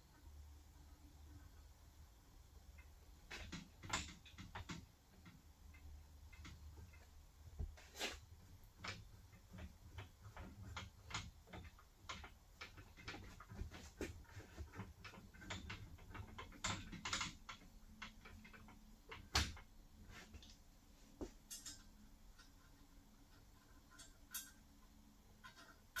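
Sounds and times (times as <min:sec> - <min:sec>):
metal parts clicking and tapping: 0:02.6 - 0:20.6, 0:21.2 - 0:26.0.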